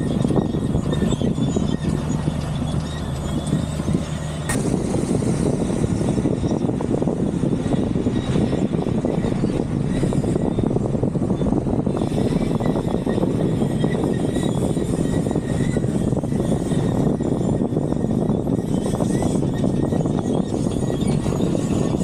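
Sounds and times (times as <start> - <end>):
car engine hum: 0.0 - 22.0.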